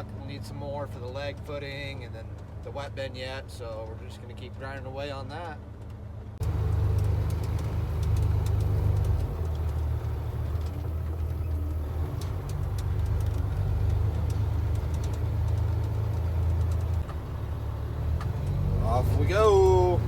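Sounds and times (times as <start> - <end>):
heavy vehicle engine humming: 0.0 - 20.0.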